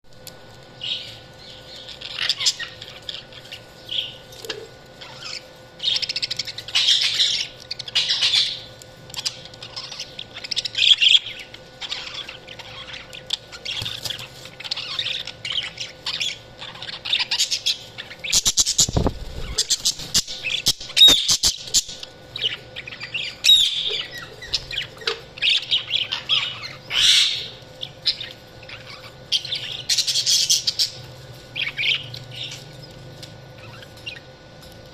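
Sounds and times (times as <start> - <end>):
budgerigars chirping: 0.8 - 32.8.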